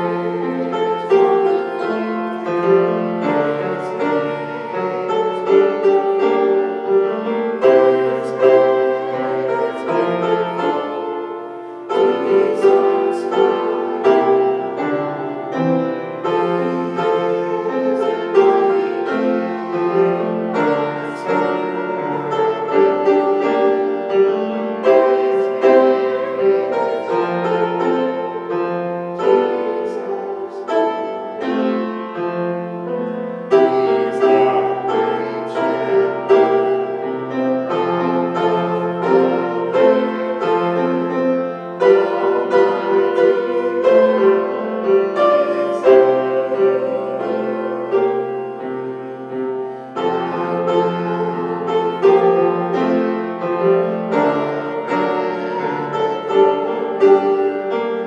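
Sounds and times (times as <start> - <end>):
slow grand piano piece: 0.0 - 58.0.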